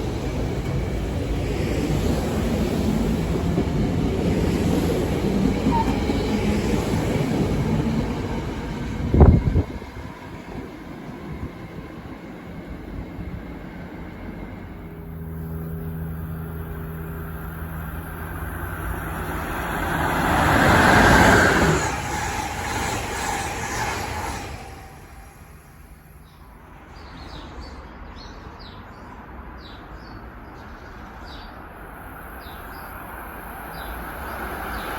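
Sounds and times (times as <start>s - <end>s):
rush of passing train: 0.0s - 34.9s
train rumbling past: 0.0s - 34.9s.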